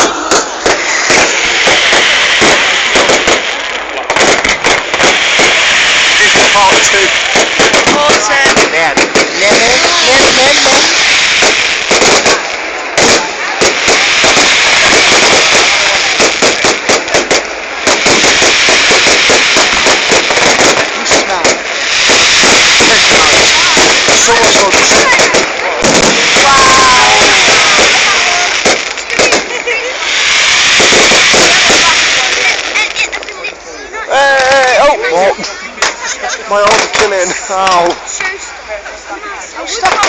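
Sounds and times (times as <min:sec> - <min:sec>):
crackling hiss: 0:00.0 - 0:40.0
fireworks bangs: 0:00.0 - 0:40.0.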